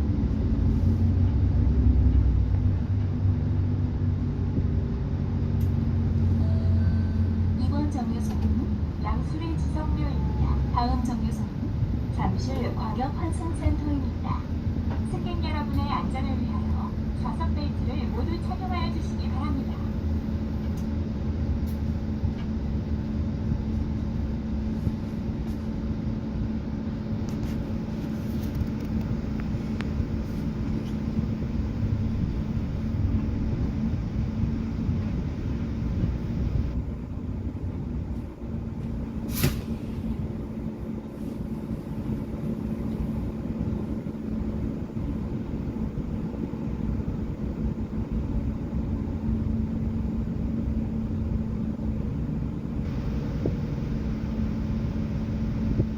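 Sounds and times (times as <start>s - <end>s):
bus engine and road rumble: 0.0s - 55.9s
constant hum: 0.0s - 55.9s.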